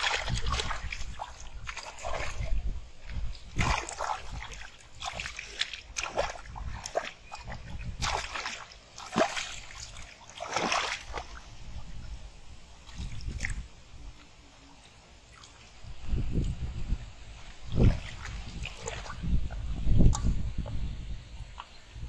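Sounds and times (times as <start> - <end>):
splashing in shallow water: 0.0 - 20.4.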